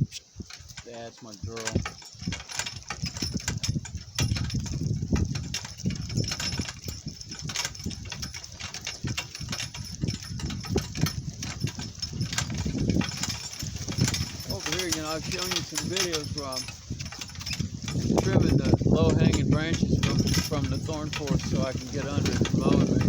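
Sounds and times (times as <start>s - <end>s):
cart rattling over rough ground: 0.0s - 23.0s.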